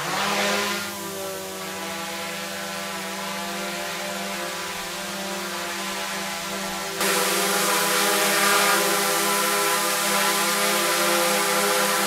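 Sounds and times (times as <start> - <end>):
quadcopter motors humming: 0.0 - 12.0.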